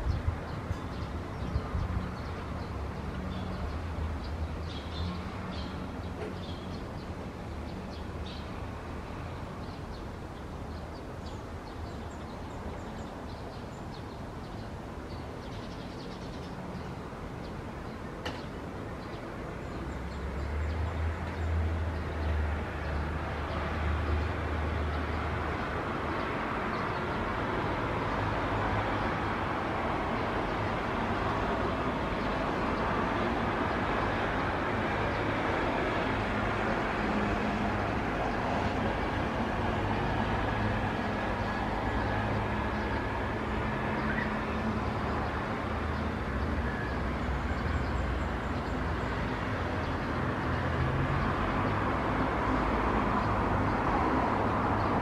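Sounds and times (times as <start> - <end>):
outdoor rumble and hiss: 0.0 - 55.0.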